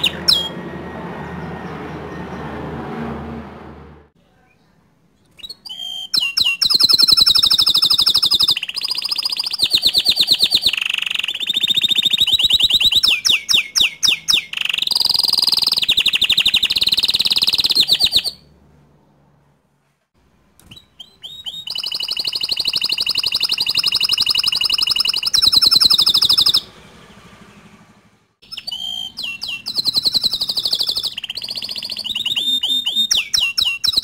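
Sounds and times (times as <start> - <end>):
canary singing trills: 0.0 - 2.7, 5.3 - 18.6, 20.6 - 34.0.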